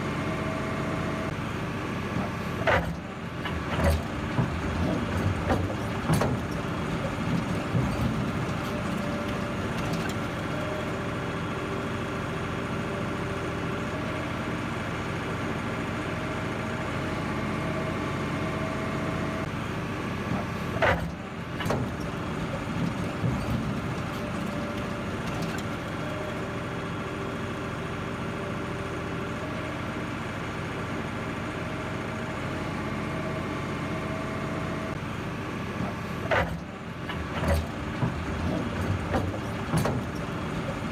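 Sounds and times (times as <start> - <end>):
heavy machinery diesel engines: 0.0 - 40.9.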